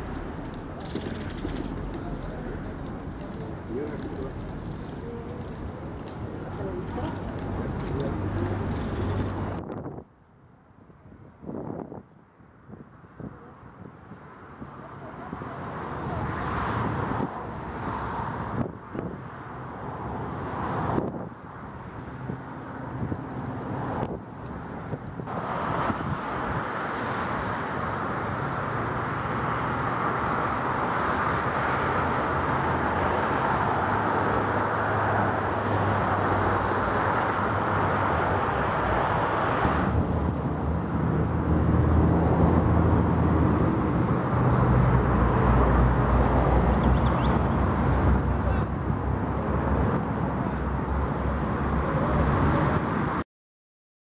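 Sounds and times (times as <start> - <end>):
vehicle engine and road noise: 0.0 - 53.2.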